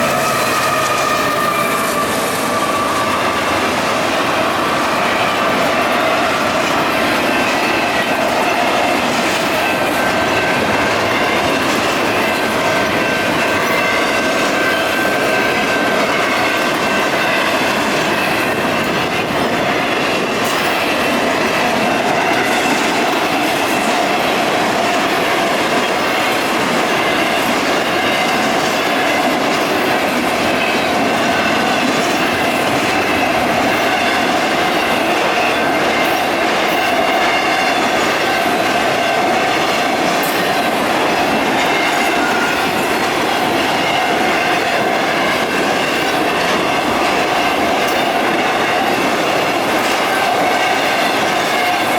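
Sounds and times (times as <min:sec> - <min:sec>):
train wheels clicking over rails: 0:00.0 - 0:51.9.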